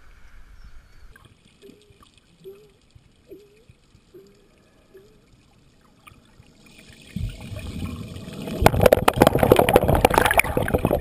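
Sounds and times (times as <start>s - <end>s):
bubbles crackling and popping: 1.2s - 11.0s
low underwater rushing: 1.2s - 11.0s.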